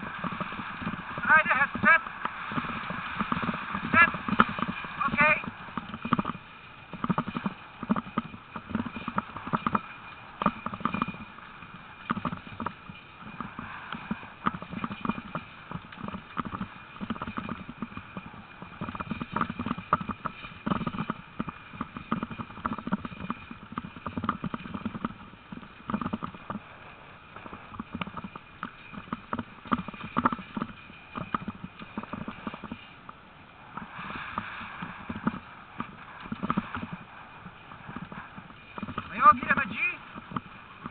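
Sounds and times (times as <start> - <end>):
dog paws on gravel: 0.0 - 40.9.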